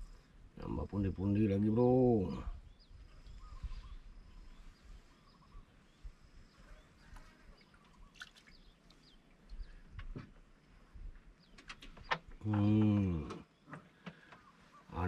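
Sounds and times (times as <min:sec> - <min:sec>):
faint bird chirps and calls: 0:00.0 - 0:15.0.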